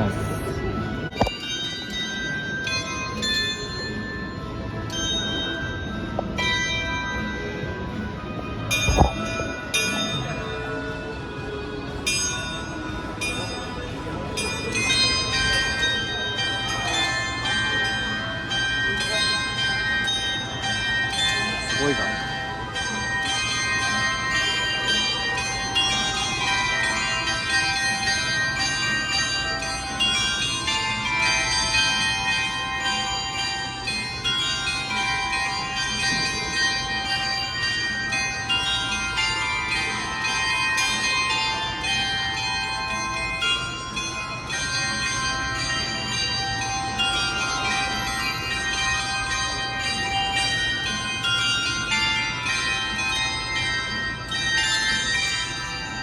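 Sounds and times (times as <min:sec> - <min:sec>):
clock chime bells playing melody: 0:00.0 - 0:56.0.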